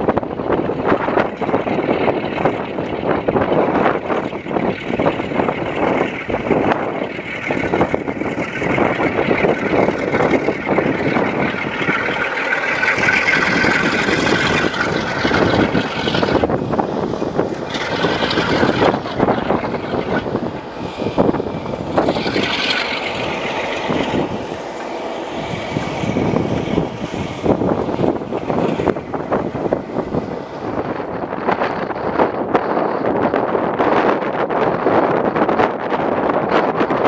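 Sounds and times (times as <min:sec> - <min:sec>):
high steady whine: 0:00.0 - 0:37.0
locomotive engine running: 0:00.0 - 0:37.0
wheels clattering on track: 0:00.0 - 0:37.0.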